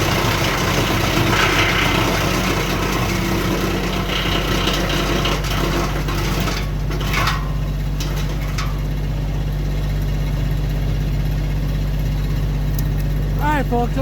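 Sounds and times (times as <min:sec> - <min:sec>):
tractor engine droning: 0:00.0 - 0:14.0
wood chipper grinding branches: 0:00.0 - 0:14.0.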